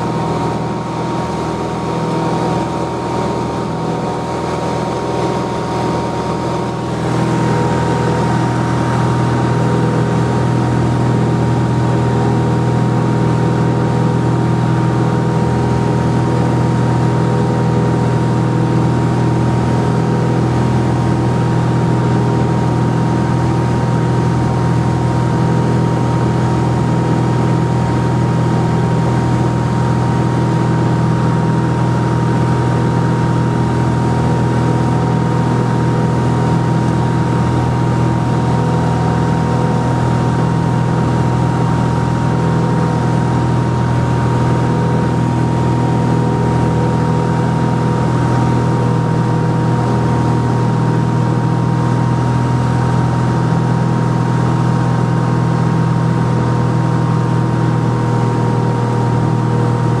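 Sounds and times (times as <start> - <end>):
propeller plane engine hum: 0.0 - 60.0.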